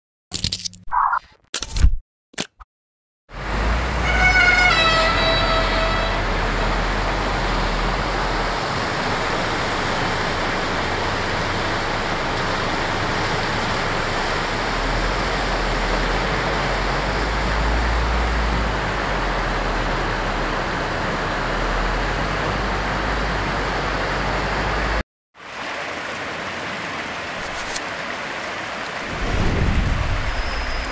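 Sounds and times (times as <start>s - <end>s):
heavy rain: 3.3s - 30.9s
floodwater rushing: 3.4s - 30.9s.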